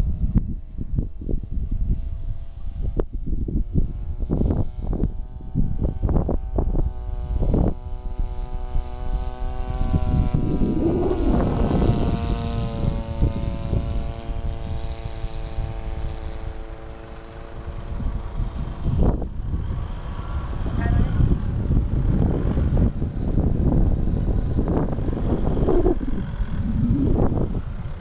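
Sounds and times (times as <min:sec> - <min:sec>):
model airplane engine drone: 0:00.0 - 0:28.0
wind buffeting microphone: 0:00.0 - 0:28.0.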